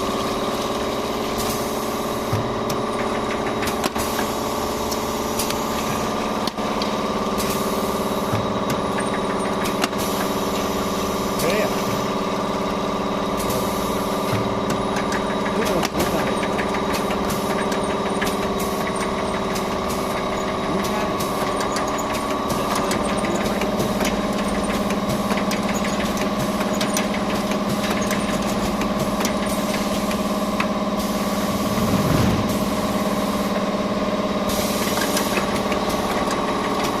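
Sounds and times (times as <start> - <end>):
machine hum: 0.0 - 34.5.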